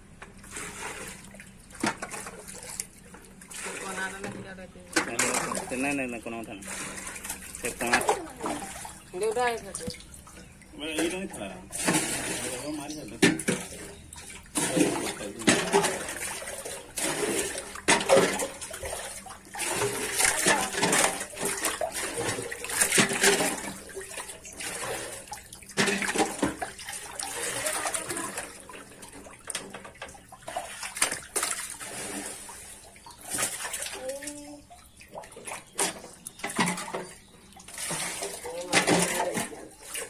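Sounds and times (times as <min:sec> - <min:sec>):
fish splashing in water: 0:00.0 - 0:04.3, 0:05.0 - 0:40.0.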